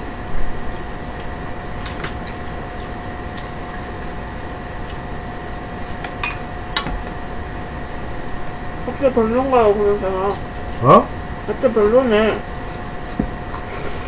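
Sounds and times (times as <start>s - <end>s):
room hum with faint whine: 0.0s - 14.0s.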